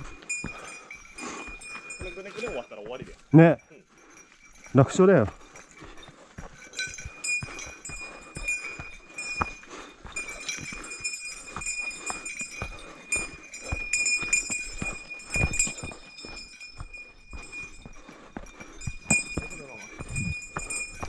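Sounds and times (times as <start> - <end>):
bear bell jingling: 0.0 - 21.0
footsteps on dirt trail: 0.0 - 21.0.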